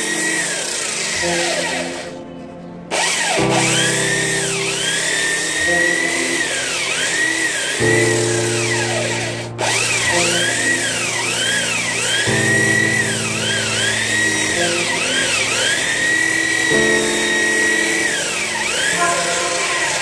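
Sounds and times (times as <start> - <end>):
power sander whining on wood: 0.0 - 2.2, 2.9 - 20.0.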